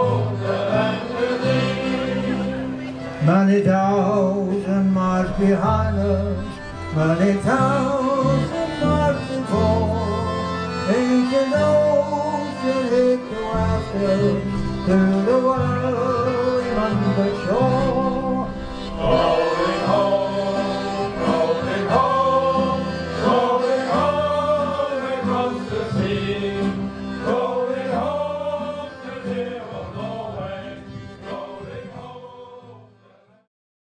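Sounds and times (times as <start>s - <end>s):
instrumental backing: 0.0s - 33.0s
group of voices singing: 0.0s - 33.5s.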